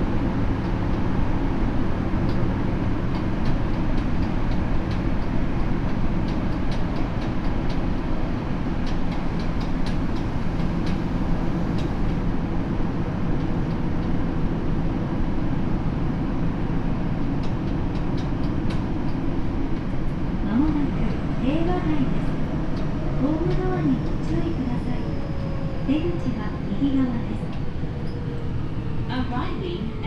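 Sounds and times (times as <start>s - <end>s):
subway wheels rumbling on rail: 0.0s - 30.0s.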